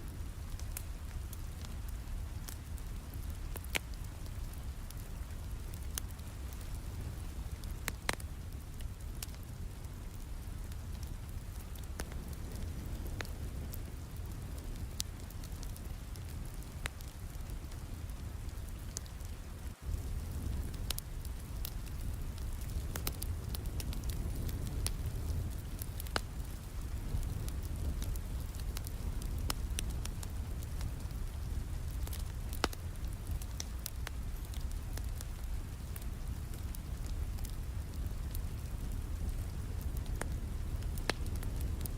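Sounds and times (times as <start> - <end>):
steady rain: 0.0 - 41.9
wood fire crackling and popping: 0.0 - 41.9.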